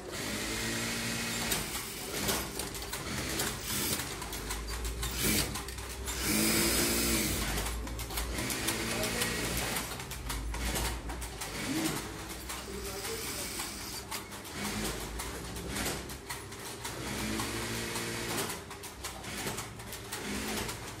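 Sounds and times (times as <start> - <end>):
sewing machines humming: 0.0 - 21.0
sewing machine clicks: 0.2 - 21.0.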